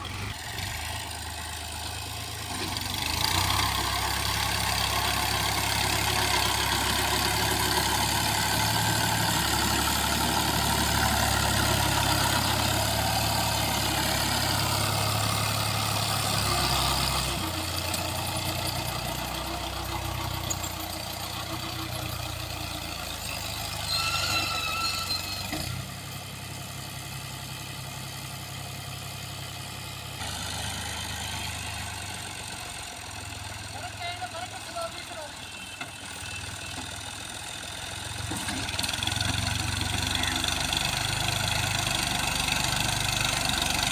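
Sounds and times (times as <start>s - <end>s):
tractor diesel engine idling: 0.0s - 24.0s, 25.8s - 43.9s.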